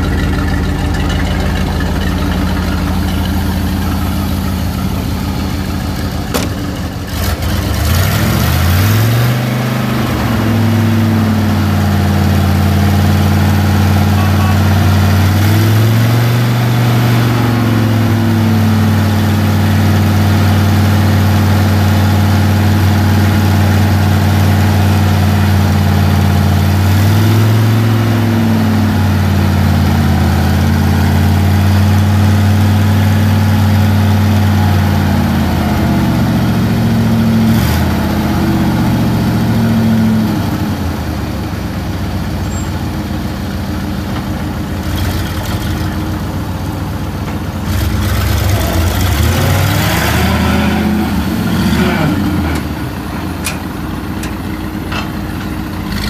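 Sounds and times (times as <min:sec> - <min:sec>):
truck engine idling and revving: 0:00.0 - 0:56.0.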